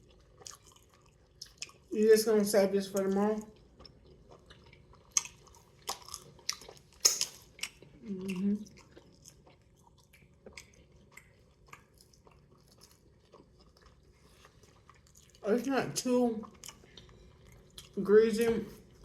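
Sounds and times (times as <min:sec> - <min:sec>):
chewing and biting pizza: 0:00.0 - 0:02.0, 0:02.9 - 0:18.0.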